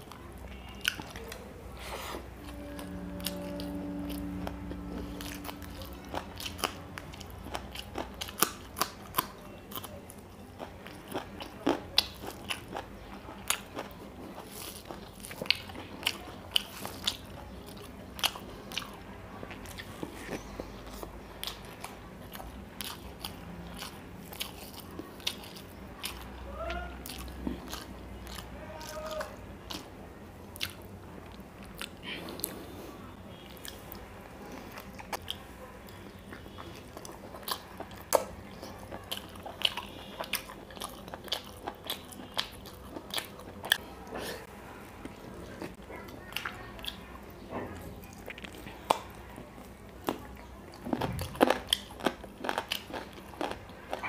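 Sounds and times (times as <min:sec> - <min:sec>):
biting and chewing food: 0:05.0 - 0:44.2, 0:45.0 - 0:54.0.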